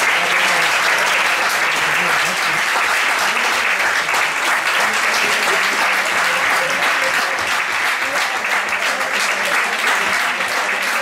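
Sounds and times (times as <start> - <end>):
audience applauding: 0.0 - 11.0
faint voices: 0.0 - 11.0.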